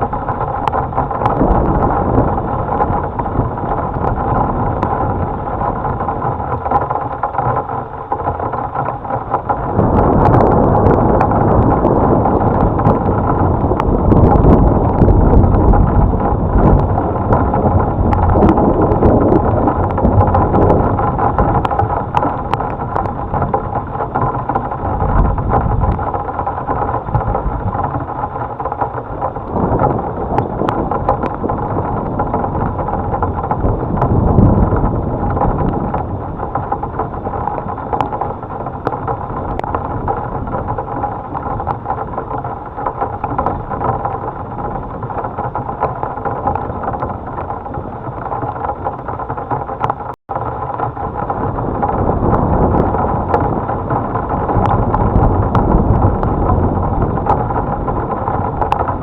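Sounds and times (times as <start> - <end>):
low rumbling thunder: 0.0 - 59.0
raindrop clicks: 0.0 - 59.0
steady rain: 0.0 - 59.0
wind noise on microphone: 0.0 - 59.0.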